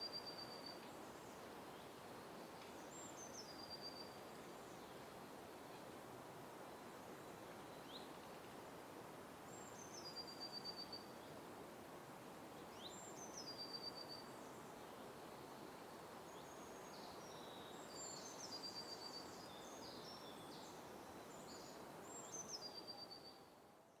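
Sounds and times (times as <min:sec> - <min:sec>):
low background hiss: 0:00.0 - 0:24.0.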